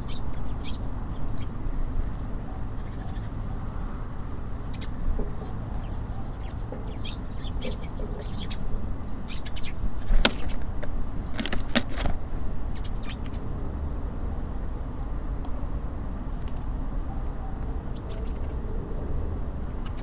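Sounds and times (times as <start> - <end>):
songbirds chirping: 0.0 - 15.7, 16.3 - 18.7, 19.7 - 20.0.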